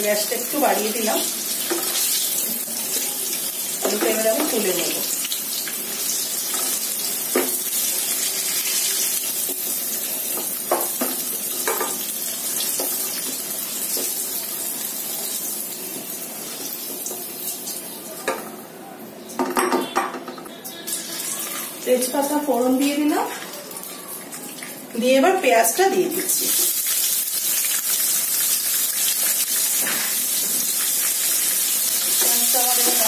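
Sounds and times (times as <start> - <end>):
potatoes sizzling in oil: 0.0 - 18.1, 20.9 - 33.0.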